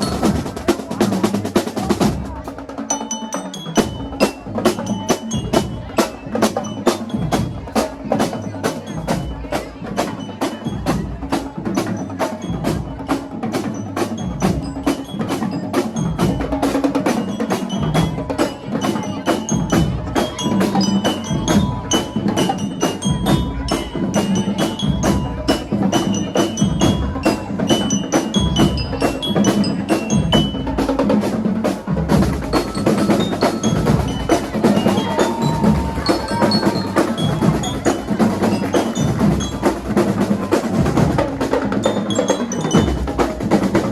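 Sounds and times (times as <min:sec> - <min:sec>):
mallet bells melody: 0:00.0 - 0:01.2, 0:01.8 - 0:43.9
drums beating march rhythm: 0:00.0 - 0:43.9
marching band playing: 0:00.0 - 0:43.9.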